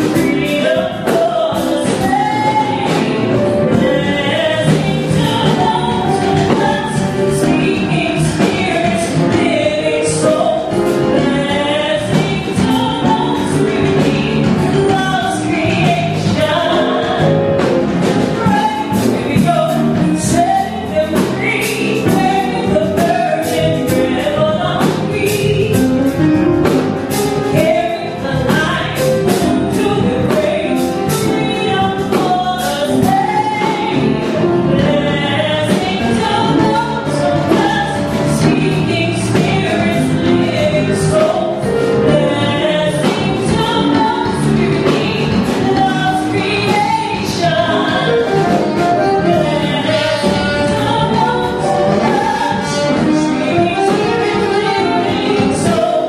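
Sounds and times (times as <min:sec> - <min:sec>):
person singing: 0:00.0 - 0:17.5, 0:27.6 - 0:56.0
drum kit: 0:00.0 - 0:56.0
piano: 0:00.0 - 0:56.0.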